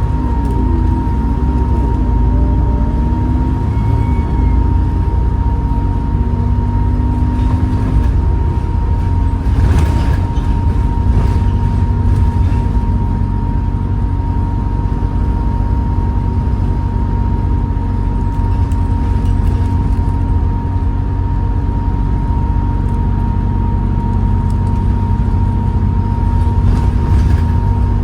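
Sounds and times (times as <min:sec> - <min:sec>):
high gearbox whine: 0:00.0 - 0:21.0, 0:21.8 - 0:28.0
bus diesel engine rumble: 0:00.0 - 0:28.0.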